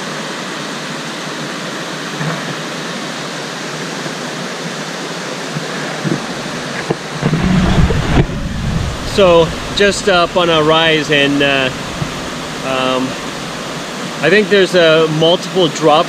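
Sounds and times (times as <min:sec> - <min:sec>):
whitewater rushing over rocks: 0:00.1 - 0:16.0.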